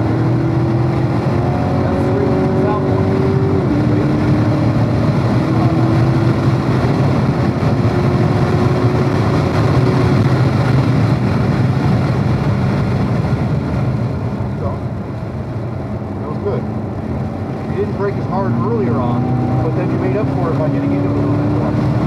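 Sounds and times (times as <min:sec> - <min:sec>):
car engine at full throttle: 0:00.0 - 0:22.0
wind and road noise: 0:00.0 - 0:22.0.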